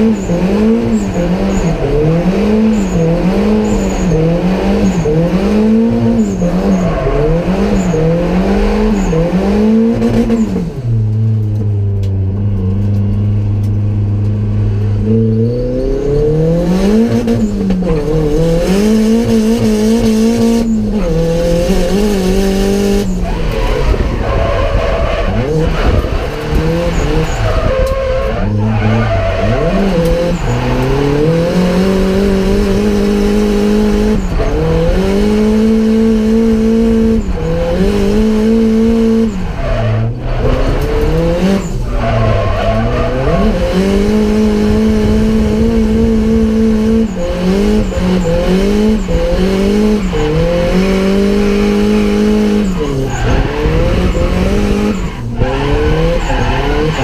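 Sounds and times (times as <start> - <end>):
car engine revving inside cabin: 0.0 - 57.0.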